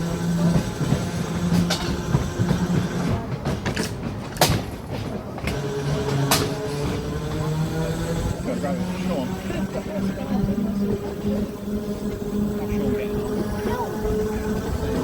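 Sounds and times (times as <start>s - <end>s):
tram humming: 0.0s - 15.0s.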